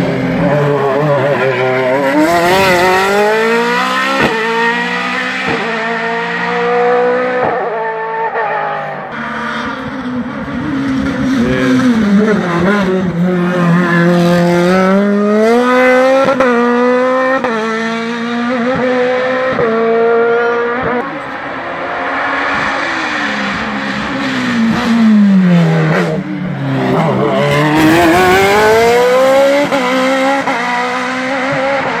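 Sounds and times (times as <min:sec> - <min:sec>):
race car engine accelerating: 0:00.0 - 0:32.0.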